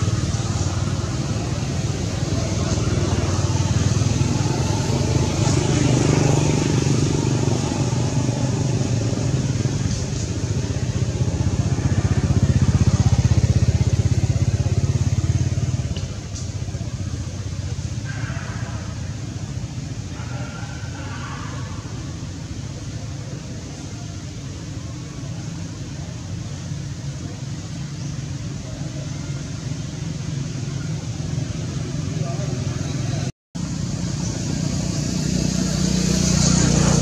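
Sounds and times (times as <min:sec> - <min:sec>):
vehicle engine pulsing hum: 0:00.0 - 0:37.0.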